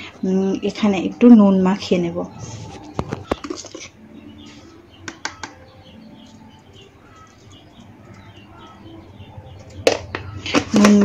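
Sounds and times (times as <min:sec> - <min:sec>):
faint bird chirps: 0:01.9 - 0:11.0.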